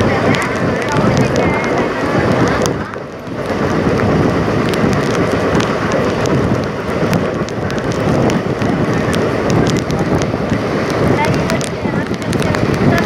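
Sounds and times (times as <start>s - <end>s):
train wheel and wind noise: 0.0s - 13.0s.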